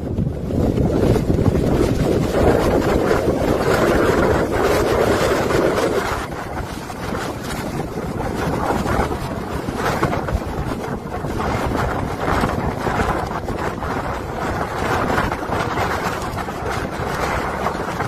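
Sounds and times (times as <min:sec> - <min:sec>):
storm winds buffeting microphone: 0:00.0 - 0:18.0.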